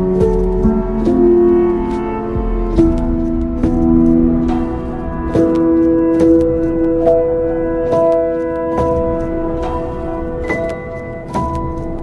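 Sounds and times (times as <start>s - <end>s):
slow sustained instrumental music: 0.0s - 12.0s.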